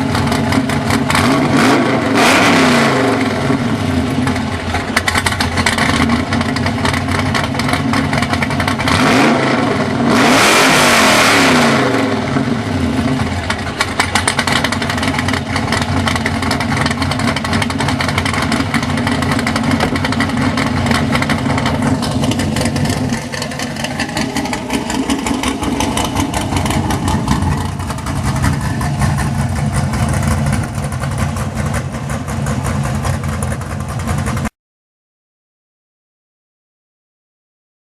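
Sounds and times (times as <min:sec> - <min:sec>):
car engine idling: 0:00.0 - 0:02.1, 0:03.1 - 0:09.1, 0:12.1 - 0:34.5
engine revving: 0:00.0 - 0:34.5.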